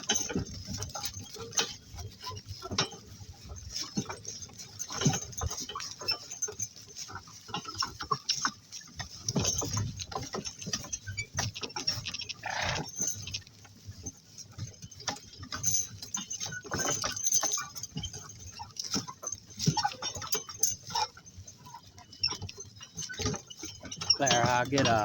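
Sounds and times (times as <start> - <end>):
cart rattling: 0.0 - 25.0
clatter of hooves: 0.0 - 25.0.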